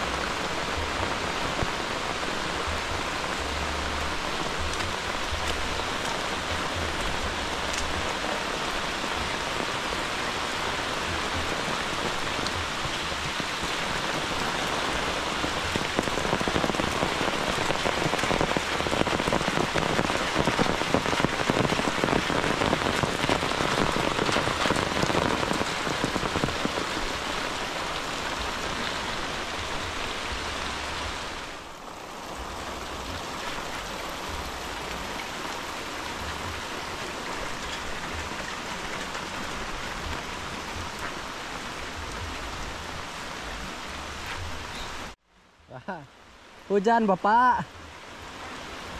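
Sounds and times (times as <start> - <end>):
heavy rain on leaves and puddles: 0.0 - 48.9.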